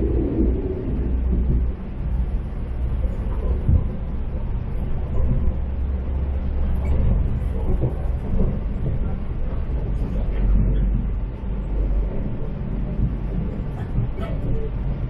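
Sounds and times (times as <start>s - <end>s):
diesel railcar rumbling on track: 0.0s - 15.0s.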